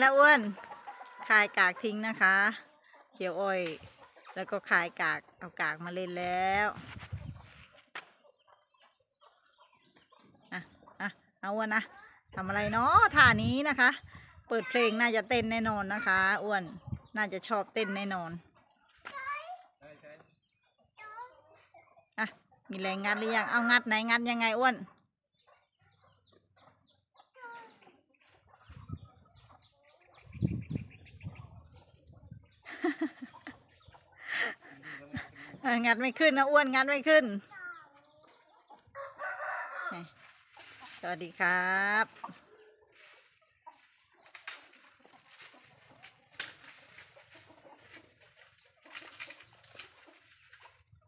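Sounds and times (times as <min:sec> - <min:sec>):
chickens clucking: 0:00.0 - 0:51.0.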